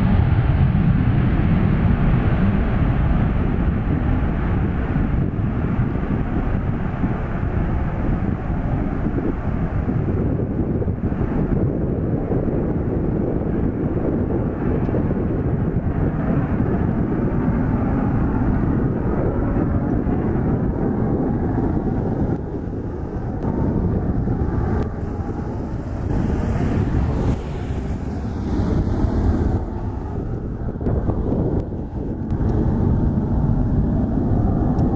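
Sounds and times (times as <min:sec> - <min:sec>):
deep jet rumble: 0:00.0 - 0:34.9.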